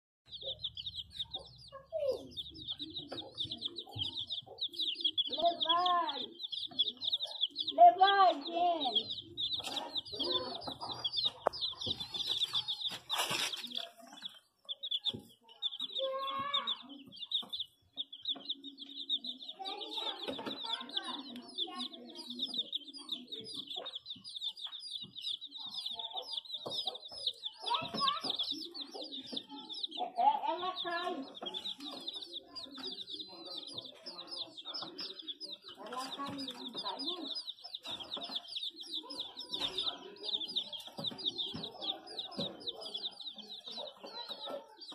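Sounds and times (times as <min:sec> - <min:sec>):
chicks peeping: 0:00.3 - 0:44.9.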